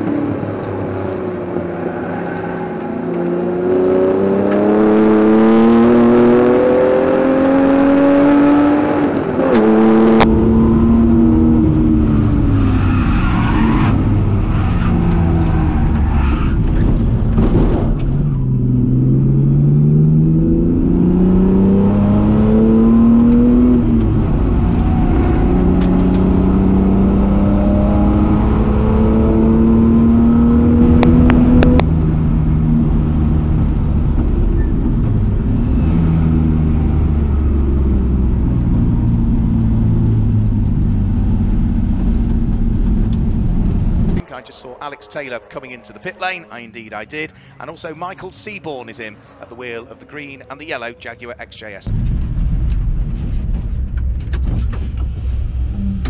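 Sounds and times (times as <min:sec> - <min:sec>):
race car engine accelerating: 0:00.0 - 0:47.4.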